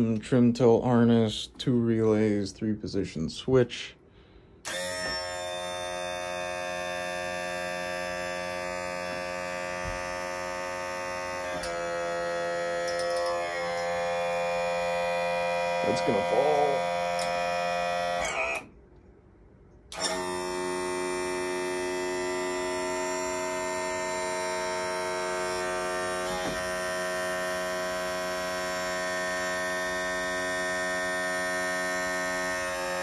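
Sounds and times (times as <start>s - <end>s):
electric pump motor humming: 4.6s - 18.7s, 19.9s - 33.0s.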